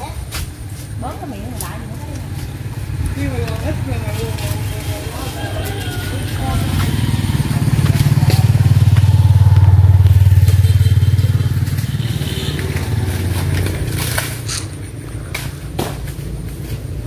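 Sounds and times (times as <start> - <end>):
motorbike passing by: 1.1 - 17.0.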